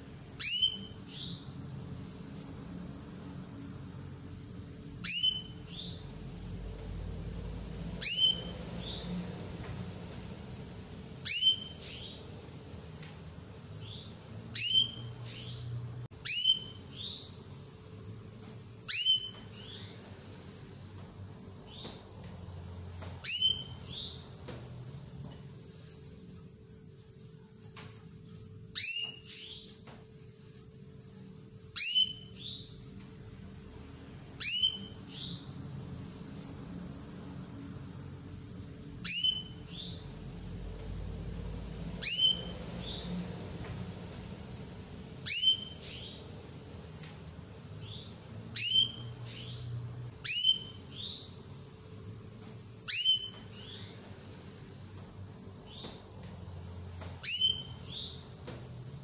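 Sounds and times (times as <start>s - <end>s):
canary chirping: 0.0s - 44.4s, 45.2s - 59.0s.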